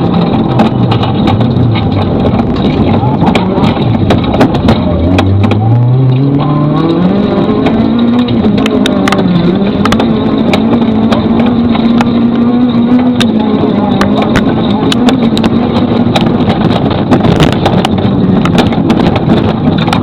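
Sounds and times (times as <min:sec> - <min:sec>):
gravel striking car: 0:00.0 - 0:20.0
rally car engine high revs: 0:00.0 - 0:20.0.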